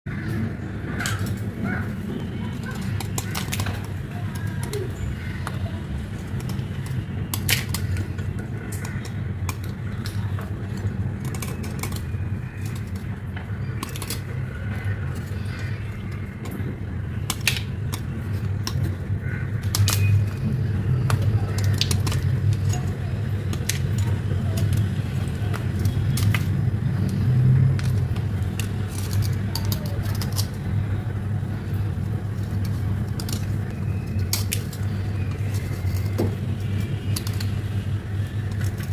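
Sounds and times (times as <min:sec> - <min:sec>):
slate crunching and cracking: 0:02.5 - 0:38.9.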